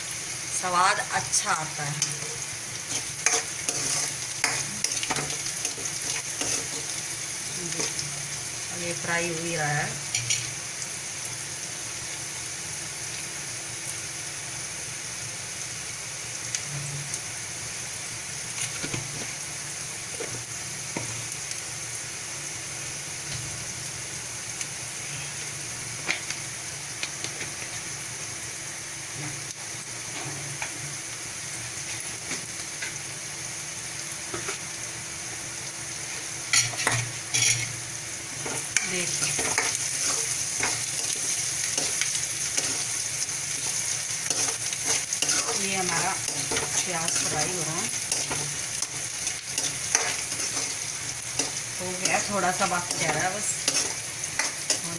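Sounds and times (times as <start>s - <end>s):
onions sizzling in hot oil: 0.0s - 54.9s.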